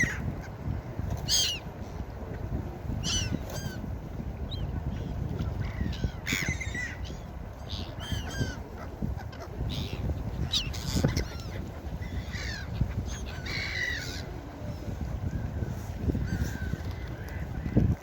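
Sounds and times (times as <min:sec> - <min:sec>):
gulls calling: 0:00.0 - 0:00.6, 0:01.2 - 0:02.2, 0:02.9 - 0:18.0.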